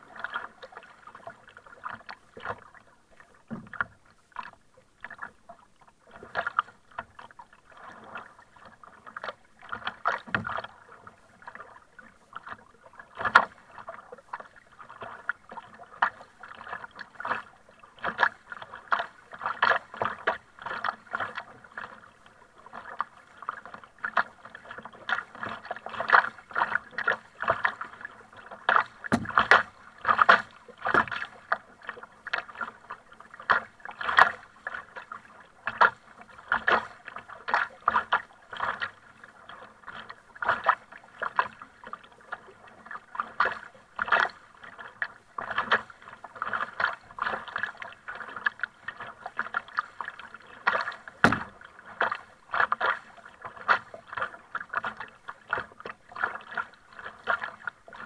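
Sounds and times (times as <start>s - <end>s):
paddle splashing: 0.0s - 58.0s
water slapping against hull: 0.0s - 58.0s.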